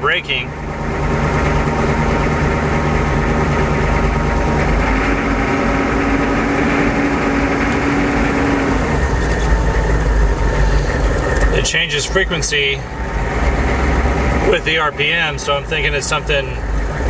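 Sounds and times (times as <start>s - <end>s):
diesel engine running low: 0.0s - 17.0s
engine whine: 0.0s - 17.0s.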